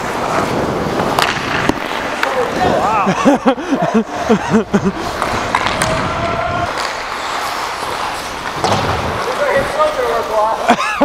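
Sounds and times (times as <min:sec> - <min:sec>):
skate blades scraping on ice: 0:00.0 - 0:10.7.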